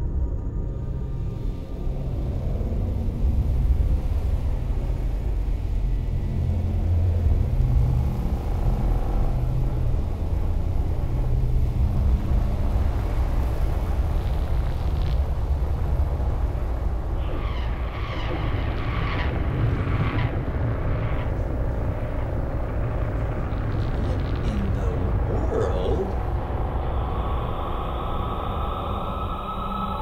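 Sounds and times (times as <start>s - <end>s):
low rumbling drone: 0.0s - 30.0s.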